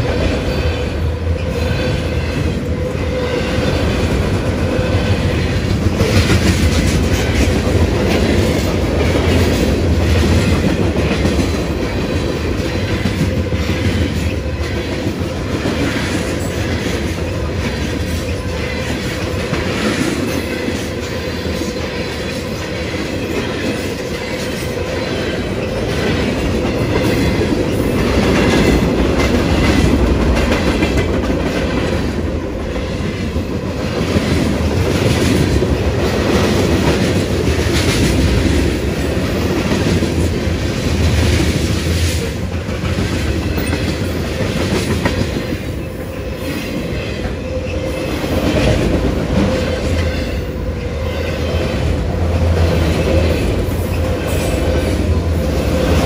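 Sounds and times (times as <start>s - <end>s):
freight train wheels rumbling: 0.0s - 56.0s
wheels clickety-clack on rails: 0.0s - 56.0s.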